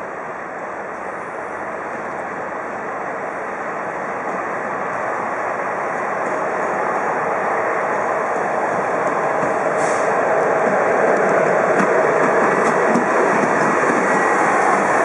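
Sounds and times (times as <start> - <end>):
train wheels on tracks: 0.0 - 15.0.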